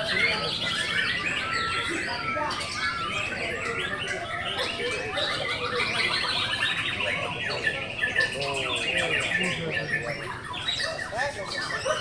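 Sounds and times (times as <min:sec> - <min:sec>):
songbirds singing and chirping: 0:00.0 - 0:12.0.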